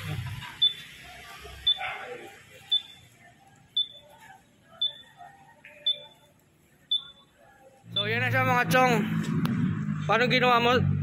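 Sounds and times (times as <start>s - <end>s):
faint background voices: 0.0s - 10.4s.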